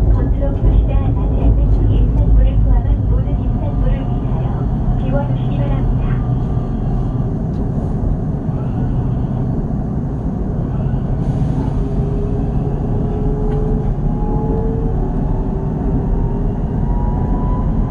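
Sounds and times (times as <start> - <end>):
train wheels rumbling on track: 0.0 - 17.9.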